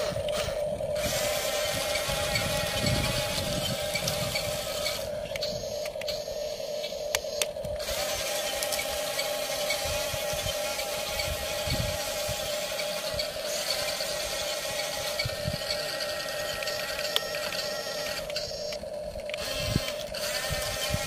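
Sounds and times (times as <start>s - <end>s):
toy motor whine: 0.0s - 21.0s
toy tracks rattling: 0.0s - 21.0s.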